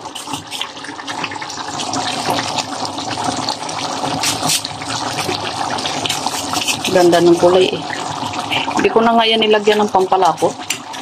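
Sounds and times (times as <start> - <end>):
stew bubbling in a pan: 0.0 - 11.0.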